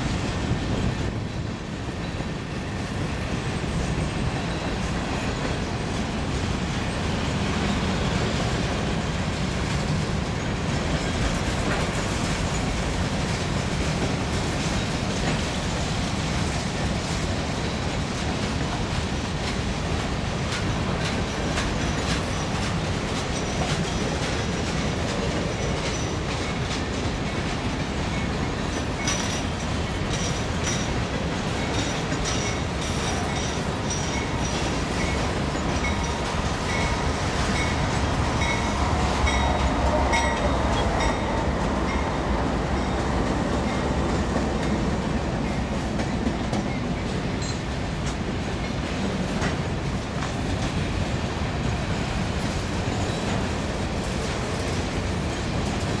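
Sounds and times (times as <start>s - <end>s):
diesel locomotive engine rumble: 0.0s - 56.0s
freight train rolling by: 0.0s - 56.0s.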